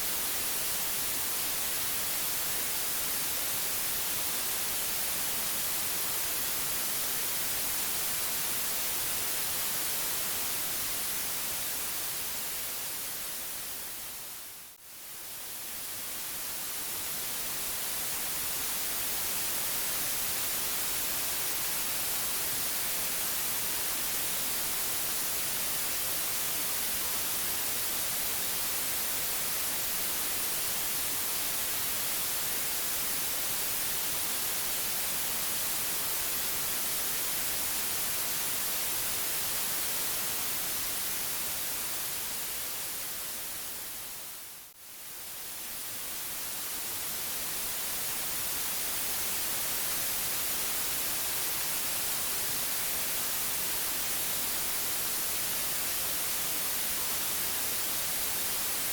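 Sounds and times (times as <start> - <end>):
steady white noise hiss: 0.0 - 58.9.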